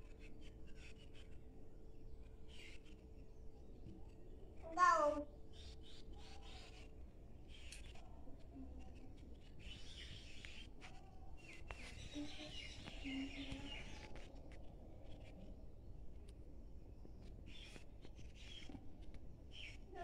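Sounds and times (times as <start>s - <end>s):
faint bird chirps: 0.1s - 15.6s, 16.9s - 20.0s.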